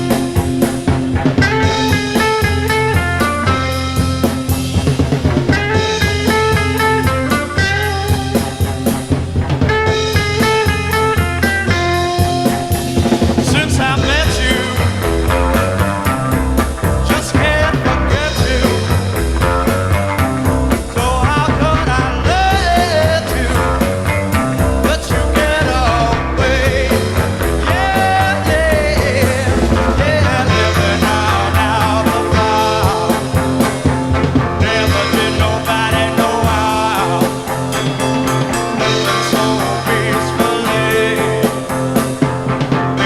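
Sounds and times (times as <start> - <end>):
heavy psychedelic rock: 0.0 - 43.0.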